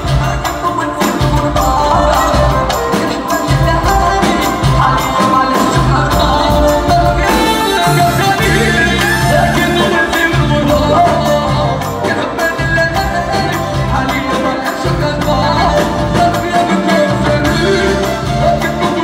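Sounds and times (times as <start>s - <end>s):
live band music over loudspeakers: 0.0s - 19.0s
man singing into microphone: 0.0s - 19.0s.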